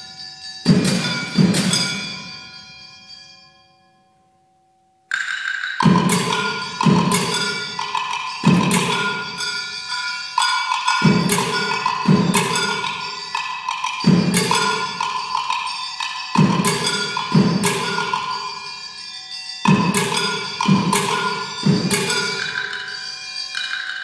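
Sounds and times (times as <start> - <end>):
clanging metal percussion: 0.0 - 3.6, 5.1 - 24.0.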